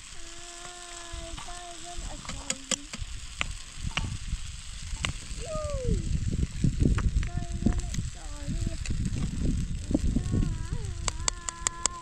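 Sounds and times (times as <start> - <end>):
food sizzling in a metal pan: 0.0 - 12.0.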